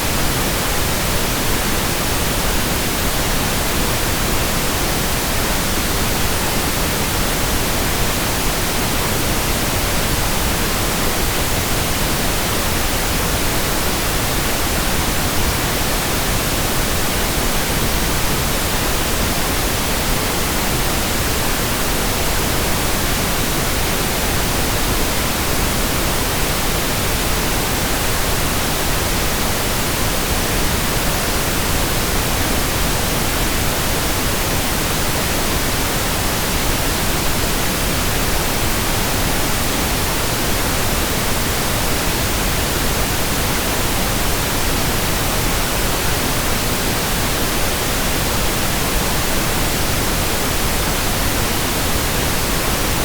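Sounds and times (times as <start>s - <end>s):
steady pink noise hiss: 0.0s - 53.0s.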